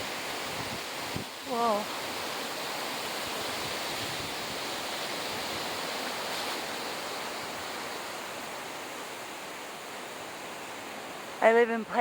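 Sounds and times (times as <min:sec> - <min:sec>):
wind blowing through trees: 0:00.0 - 0:12.0.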